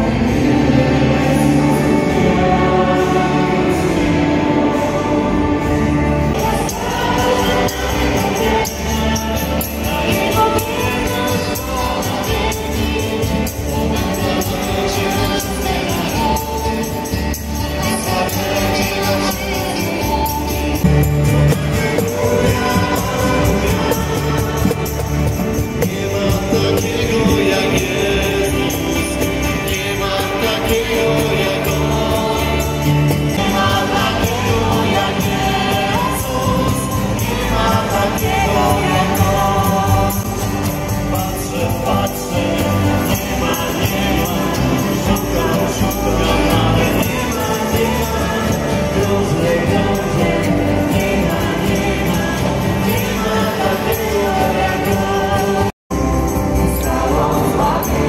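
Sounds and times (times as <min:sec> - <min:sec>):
acoustic guitars: 0:00.0 - 0:58.0
electric bass: 0:00.0 - 0:58.0
keyboard: 0:00.0 - 0:58.0
person singing: 0:00.0 - 0:58.0.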